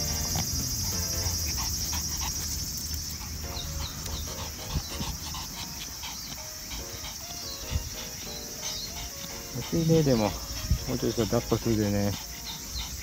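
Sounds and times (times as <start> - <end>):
dog panting: 0.0 - 13.0
insects shrilling: 0.0 - 13.0.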